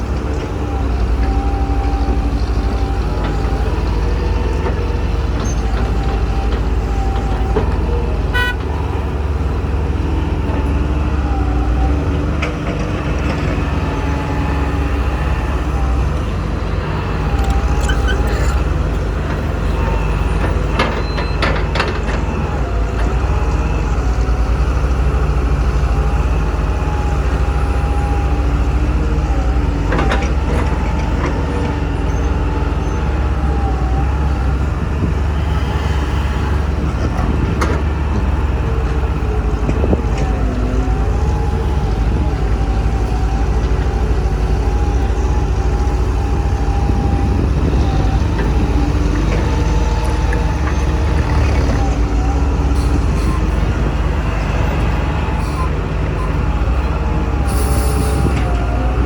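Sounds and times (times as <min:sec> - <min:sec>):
diesel engines rumbling: 0:00.0 - 0:59.0.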